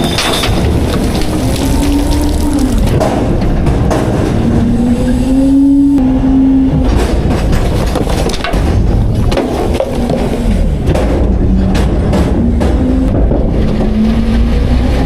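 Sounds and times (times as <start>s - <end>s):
garbage truck packing garbage: 0.0s - 15.0s.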